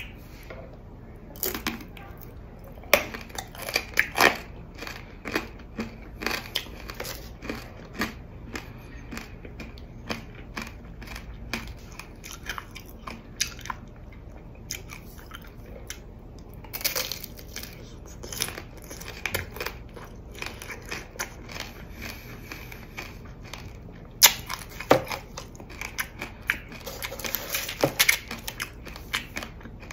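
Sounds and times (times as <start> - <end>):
hard candy crunching: 1.3 - 29.9
biting and chewing: 1.4 - 29.9.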